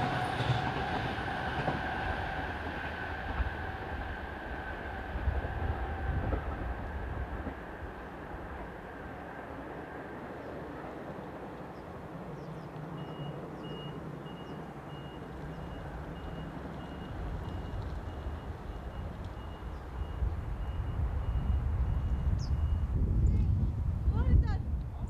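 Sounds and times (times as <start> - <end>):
low rumble of train: 0.0 - 25.0.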